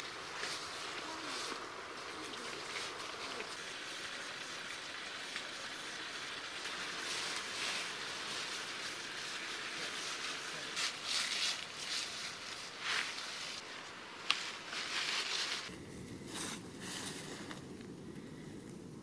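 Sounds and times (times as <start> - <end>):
branches and leaves rustling: 0.0 - 19.0
steady outdoor hiss: 0.0 - 19.0.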